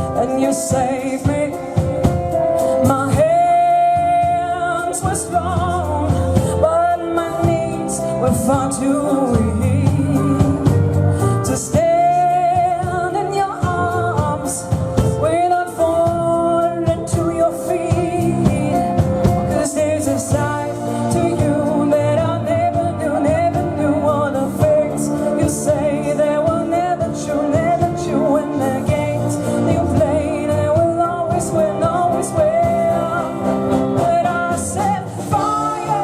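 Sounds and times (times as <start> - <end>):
big band playing pop ballad: 0.0 - 36.0
person singing: 0.0 - 36.0.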